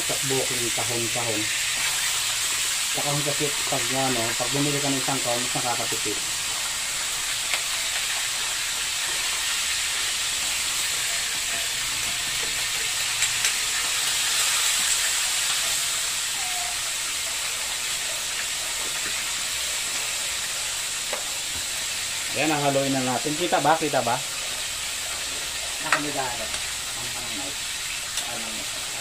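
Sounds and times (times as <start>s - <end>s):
meat sizzling in a wok: 0.0s - 29.0s.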